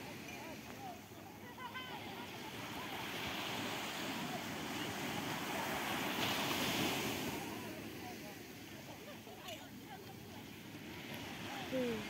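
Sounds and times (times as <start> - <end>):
small waves washing in: 0.0 - 12.0.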